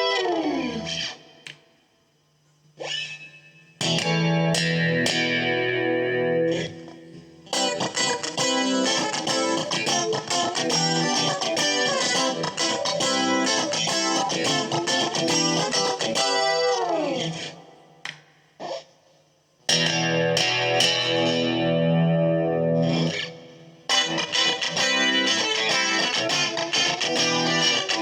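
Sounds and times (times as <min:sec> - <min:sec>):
clean electric guitar playing: 0:00.0 - 0:01.2, 0:03.8 - 0:17.8, 0:19.7 - 0:28.0.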